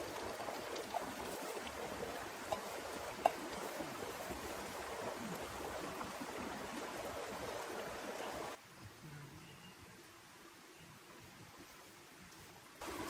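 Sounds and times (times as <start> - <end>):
steady rain falling: 0.0 - 8.8, 9.9 - 13.0.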